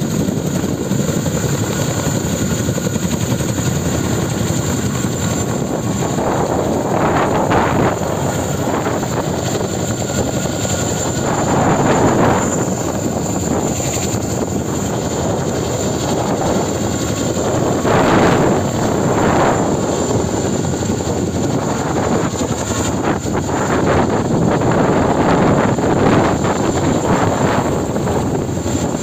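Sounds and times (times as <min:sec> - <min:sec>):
helicopter rotors and engines: 0:00.0 - 0:29.0
high turbine whine: 0:00.0 - 0:29.0.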